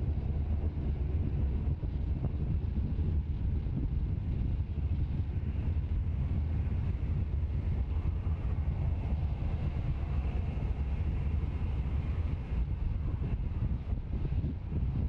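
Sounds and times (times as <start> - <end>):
rocket engine low rumble: 0.0 - 15.0.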